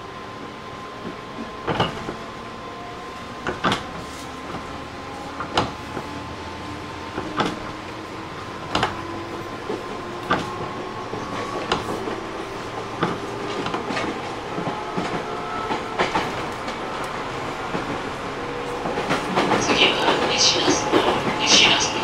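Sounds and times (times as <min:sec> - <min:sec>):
train equipment hum: 0:00.0 - 0:22.0
train wheels clicking over rail joints: 0:01.0 - 0:02.2, 0:03.4 - 0:04.7, 0:05.3 - 0:21.8.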